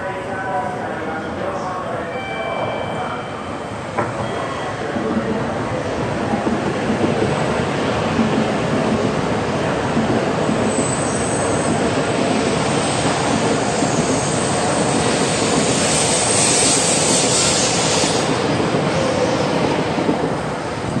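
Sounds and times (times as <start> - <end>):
train running noise: 0.0 - 21.0.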